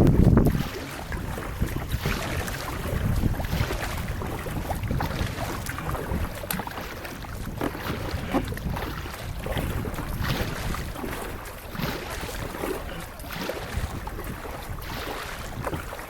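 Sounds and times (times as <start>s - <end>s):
water splashing around kayak: 0.0s - 16.0s
wind rumbling on microphone: 0.0s - 16.0s.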